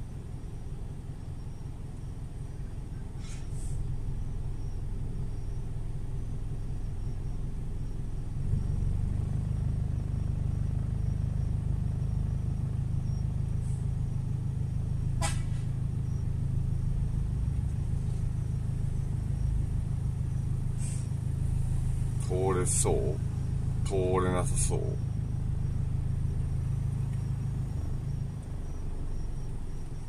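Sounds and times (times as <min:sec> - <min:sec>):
car engine rumble inside cabin: 0:00.0 - 0:30.0.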